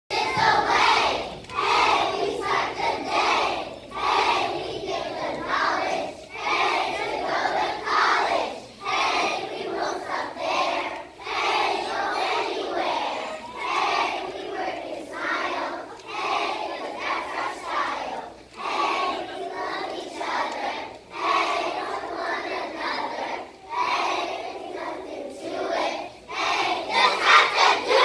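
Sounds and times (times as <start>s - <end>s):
children singing together: 0.1s - 28.0s.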